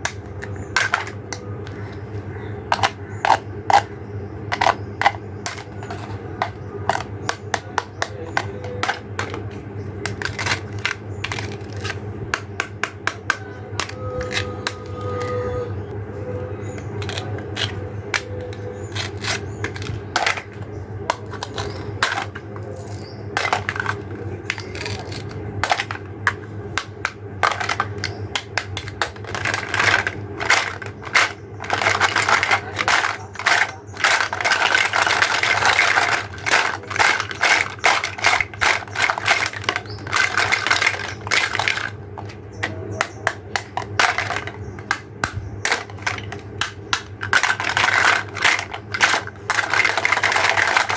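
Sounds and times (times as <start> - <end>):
plastic toy pieces clattering: 0.0 - 15.4, 16.8 - 50.9.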